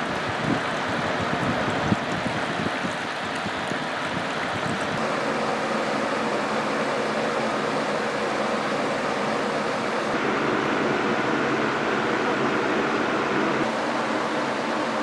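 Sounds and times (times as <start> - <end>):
fan air rushing: 0.0 - 15.0
low motor hum: 0.0 - 15.0.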